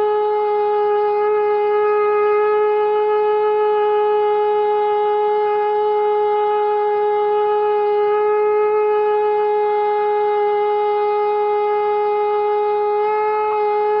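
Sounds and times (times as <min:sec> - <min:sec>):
conch shell blown: 0:00.0 - 0:14.0.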